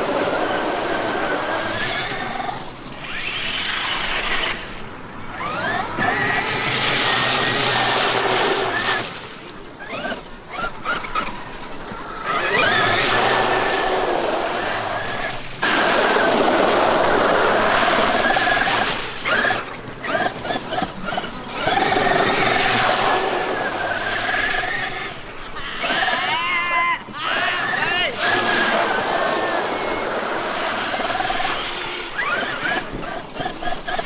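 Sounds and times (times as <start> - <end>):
electric motor whining: 0.0 - 26.4, 27.1 - 34.0.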